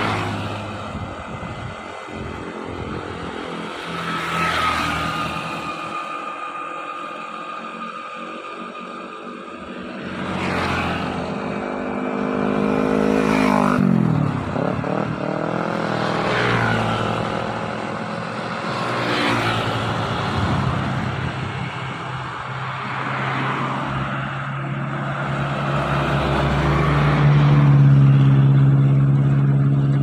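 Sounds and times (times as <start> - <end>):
steady engine hum: 0.0 - 30.0
vehicles passing: 0.0 - 30.0.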